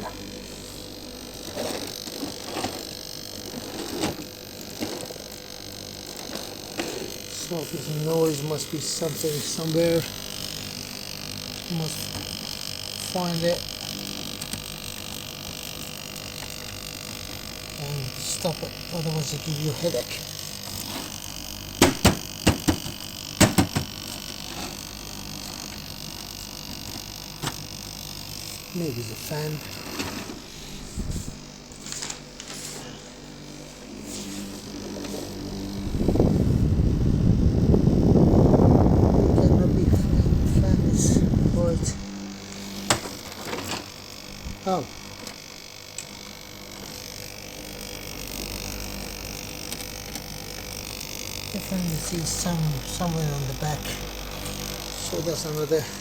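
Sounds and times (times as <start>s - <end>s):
dehumidifier humming: 0.0s - 56.0s.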